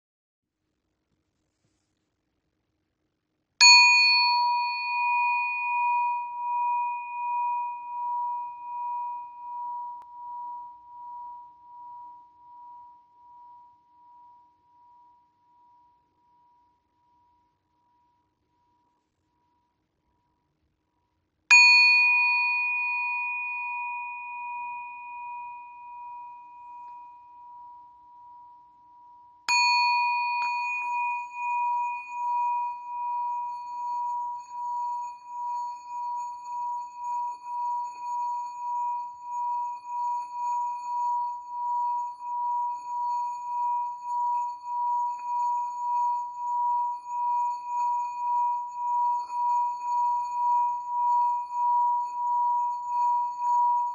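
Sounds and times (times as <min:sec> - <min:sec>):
singing bowl ringing: 0:03.6 - 0:18.4, 0:21.5 - 0:53.9.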